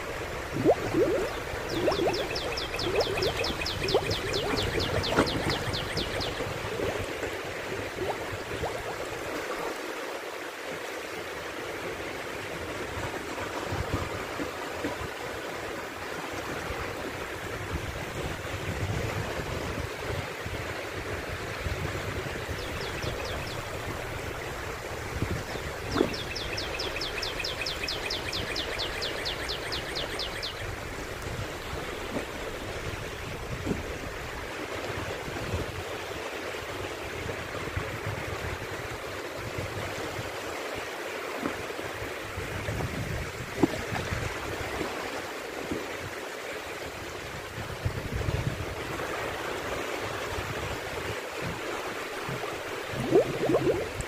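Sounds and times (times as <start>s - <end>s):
small waves washing over beach: 0.0s - 54.0s.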